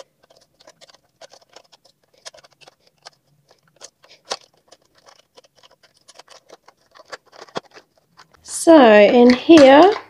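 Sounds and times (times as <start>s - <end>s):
wire twist tie clicking and crinkling: 0.0s - 10.0s.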